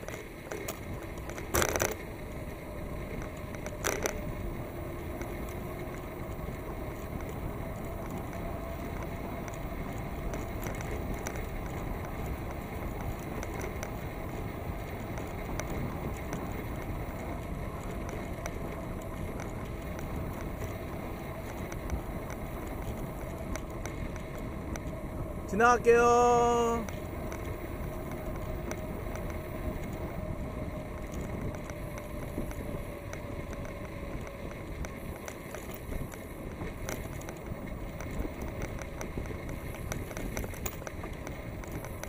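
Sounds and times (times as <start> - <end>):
bicycle tyres rolling on pavement: 0.0 - 42.0
faint ticks: 0.0 - 42.0
wind noise on microphone: 0.0 - 42.0.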